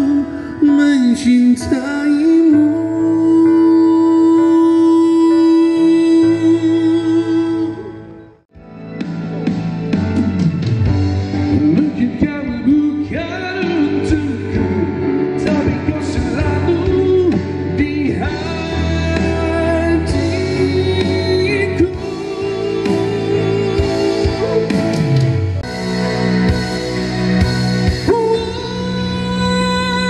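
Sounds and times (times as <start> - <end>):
pop song over loudspeakers: 0.0 - 30.0.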